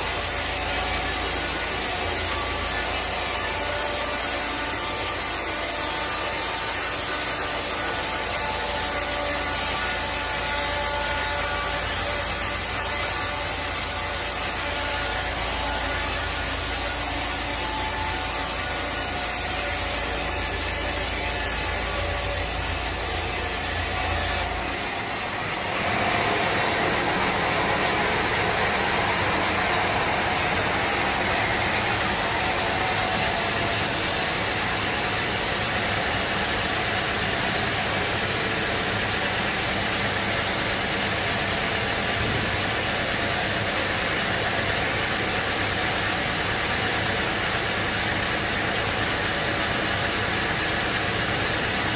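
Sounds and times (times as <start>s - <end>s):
sawmill machinery running: 0.0s - 51.9s.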